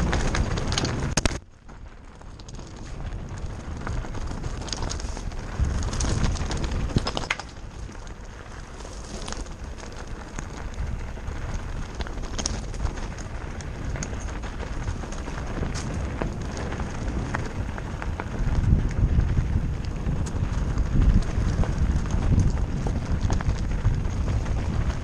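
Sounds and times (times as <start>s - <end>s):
bike clicks and rattles: 0.0s - 25.0s
tyres crunching over stones: 0.0s - 25.0s
wind rumbling on microphone: 0.0s - 25.0s.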